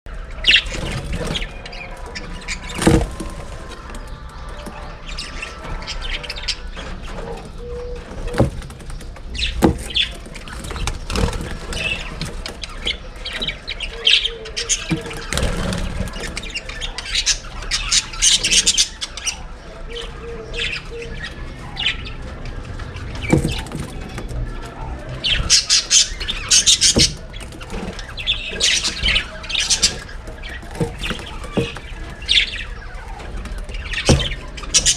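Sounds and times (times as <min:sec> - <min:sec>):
budgerigars chattering and squawking: 0:00.2 - 0:34.9.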